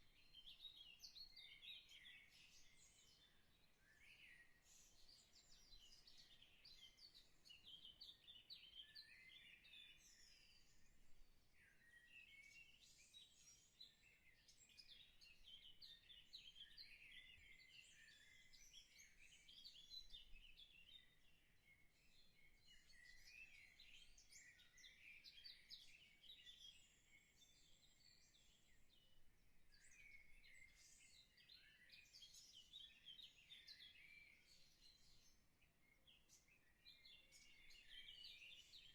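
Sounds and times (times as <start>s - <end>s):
many small birds chirping: 0.0s - 38.9s.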